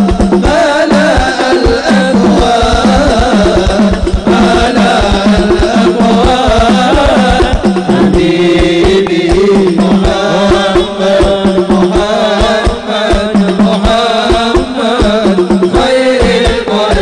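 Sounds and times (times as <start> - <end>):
hand drums beating: 0.0 - 17.0
man singing ornamented melody: 0.0 - 17.0.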